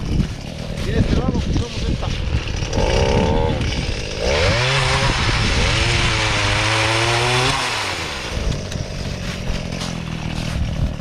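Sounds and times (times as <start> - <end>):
pole saw engine revving: 0.0 - 11.0.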